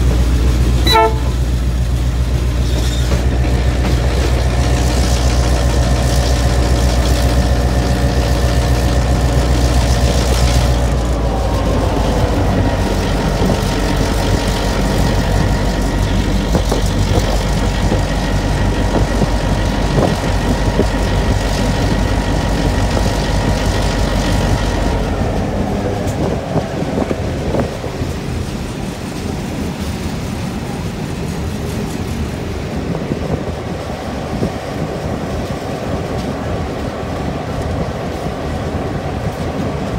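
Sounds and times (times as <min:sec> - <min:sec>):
diesel locomotive engine rumbling: 0:00.0 - 0:39.9
train wheels on rails: 0:00.0 - 0:39.9.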